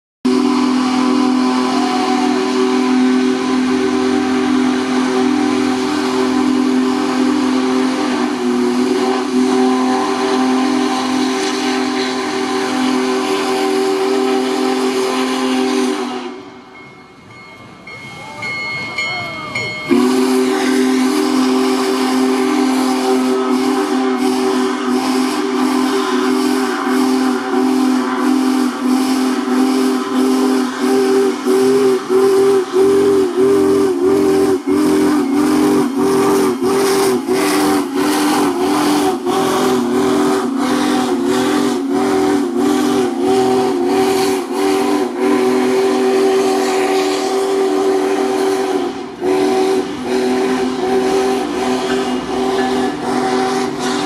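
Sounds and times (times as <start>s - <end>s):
locomotive chuffing beats: 0.3s - 54.0s
steam hissing: 0.3s - 54.0s
steam locomotive chime whistle: 0.3s - 54.0s.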